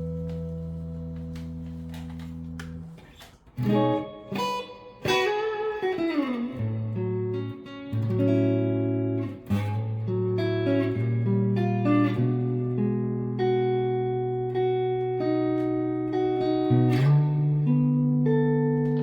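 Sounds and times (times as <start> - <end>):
electric guitar playing: 0.0 - 19.0.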